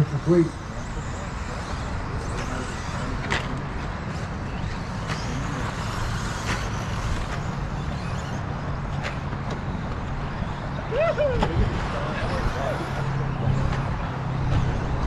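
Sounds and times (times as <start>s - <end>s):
rc truck motor whine: 0.0s - 15.0s.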